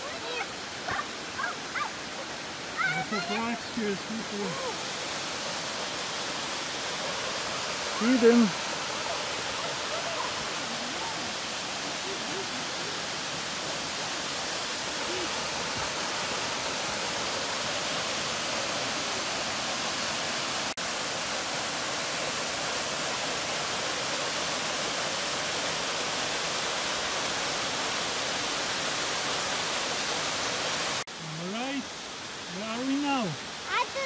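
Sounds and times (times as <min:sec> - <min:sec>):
waterfall rushing hiss: 0:00.0 - 0:34.0.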